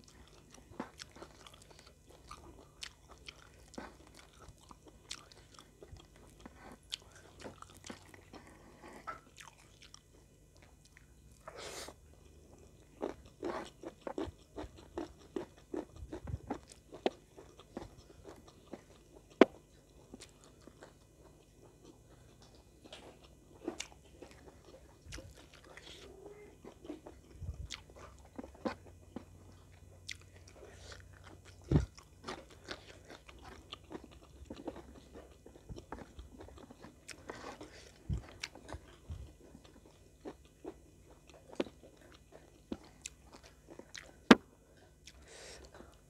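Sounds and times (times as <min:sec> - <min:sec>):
wet chewing and crunching: 0:00.0 - 0:11.6, 0:12.2 - 0:46.0.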